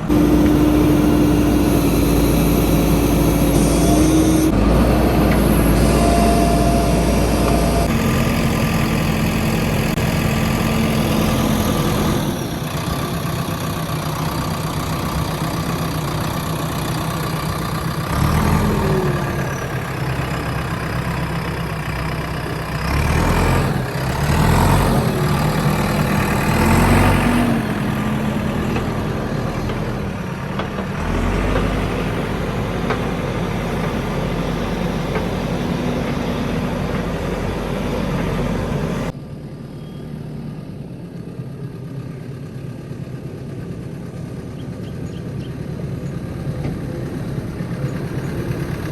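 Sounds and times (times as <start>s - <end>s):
diesel engine revving: 0.0s - 39.2s, 45.6s - 48.9s.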